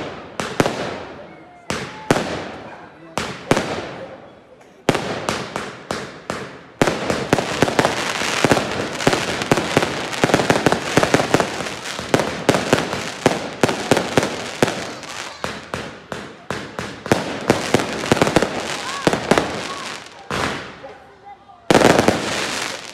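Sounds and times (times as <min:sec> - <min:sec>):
fireworks bangs and pops: 0:00.0 - 0:04.2, 0:04.8 - 0:21.1, 0:21.7 - 0:22.9.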